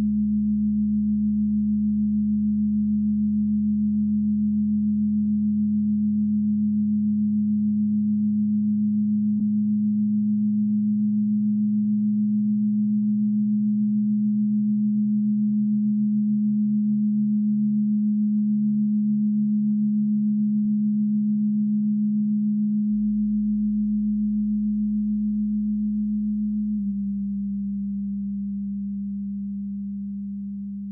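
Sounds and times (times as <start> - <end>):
electronic sine tone drone: 0.0 - 30.9
pulsing low tones: 0.0 - 30.9.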